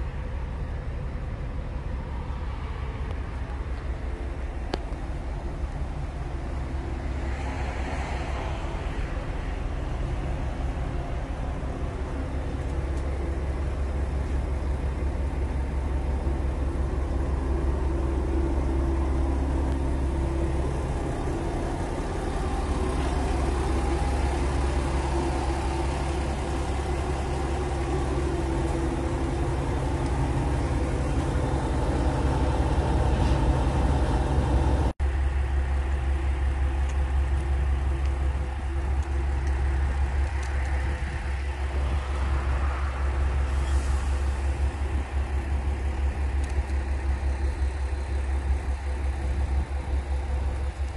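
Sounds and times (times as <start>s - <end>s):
diesel railcar engine humming: 0.0s - 50.9s.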